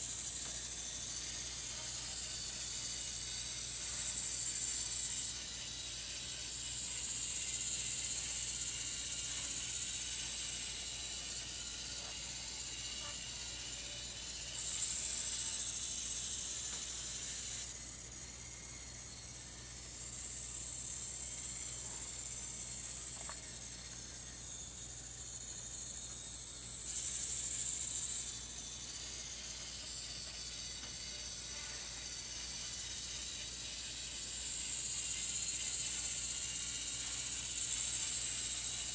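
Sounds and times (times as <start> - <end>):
model bus motors whirring: 0.0 - 38.9.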